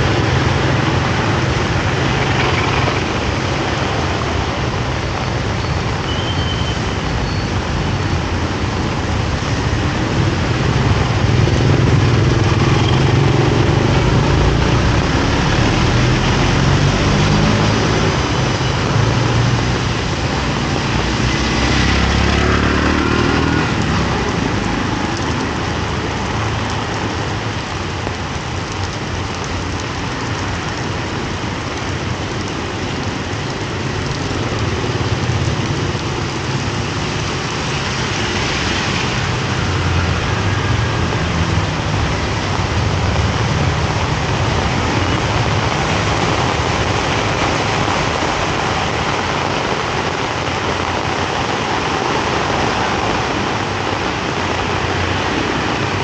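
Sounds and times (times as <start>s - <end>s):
heavy rain on a street: 0.0s - 56.0s.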